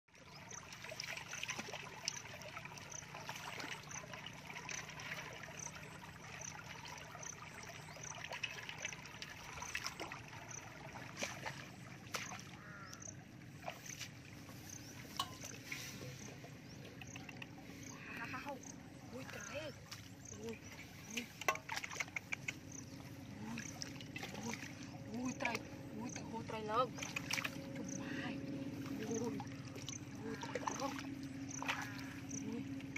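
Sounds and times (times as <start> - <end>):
muddy water trickling: 0.1 - 32.9.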